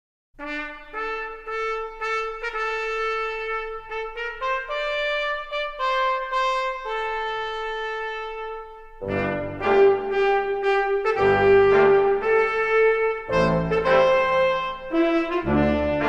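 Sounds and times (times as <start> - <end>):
solo trumpet melody: 0.4 - 16.0.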